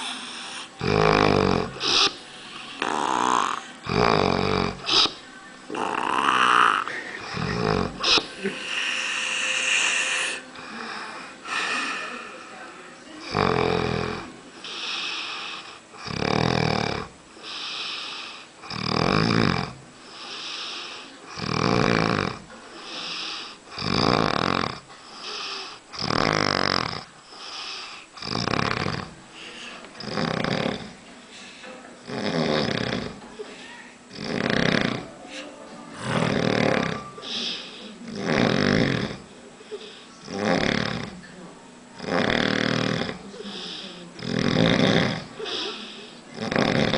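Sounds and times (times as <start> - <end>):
man snoring heavily: 0.0 - 12.0, 13.3 - 31.0, 32.0 - 33.2, 34.1 - 35.1, 36.0 - 41.2, 42.0 - 46.9.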